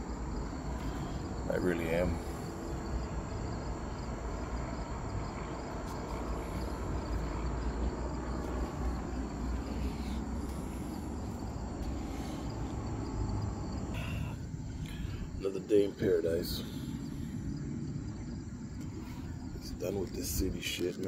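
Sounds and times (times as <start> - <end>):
low steady rumble: 0.0 - 20.6
insects trilling: 0.0 - 21.0.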